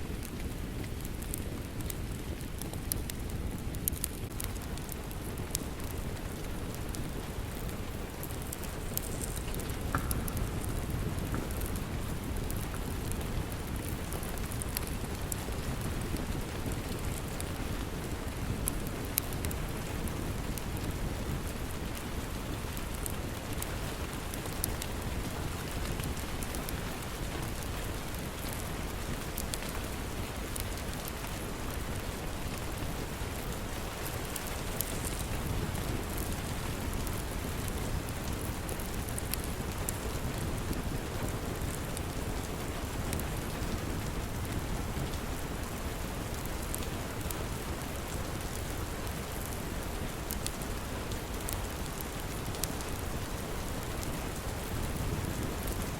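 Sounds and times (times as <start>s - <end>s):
log fire crackling: 0.0s - 55.9s
rain on a surface: 0.0s - 55.9s.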